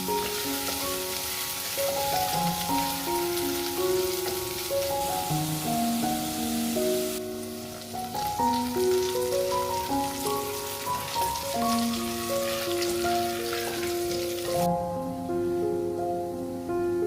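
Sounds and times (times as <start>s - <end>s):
food frying with crackling sizzle: 0.0s - 14.7s
slow melodic background music: 0.0s - 17.0s.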